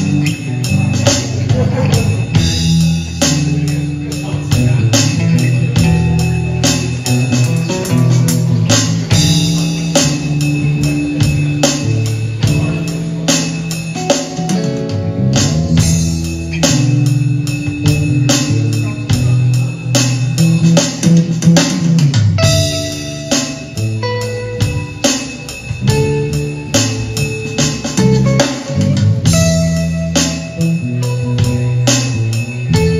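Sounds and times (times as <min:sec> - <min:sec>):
electric bass line: 0:00.0 - 0:32.9
electric guitar: 0:00.0 - 0:32.9
electronic drum kit beat: 0:00.0 - 0:32.9.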